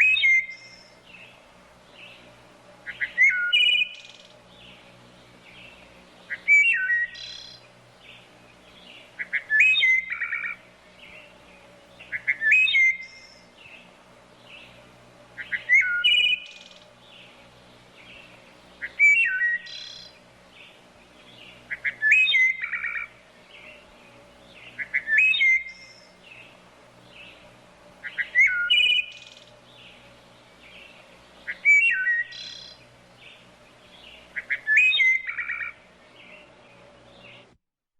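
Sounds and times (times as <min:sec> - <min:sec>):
songbird singing: 0:00.0 - 0:37.6.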